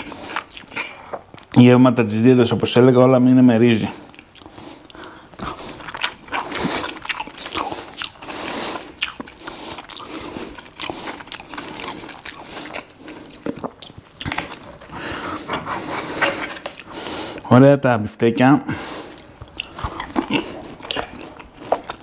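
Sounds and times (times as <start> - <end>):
person chewing food: 0.0 - 1.6, 3.8 - 17.4, 18.8 - 22.0.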